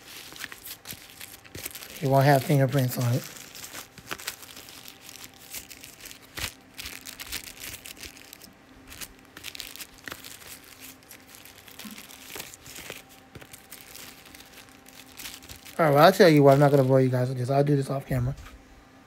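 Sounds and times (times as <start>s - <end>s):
plastic packaging crinkling: 0.0s - 17.5s.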